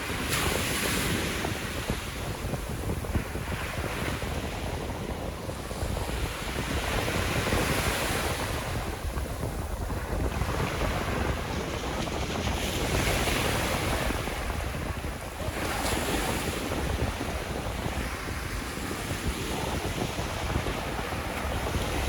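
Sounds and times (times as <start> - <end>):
sea waves washing onto shore: 0.0 - 22.0
wind noise on microphone: 0.0 - 22.0.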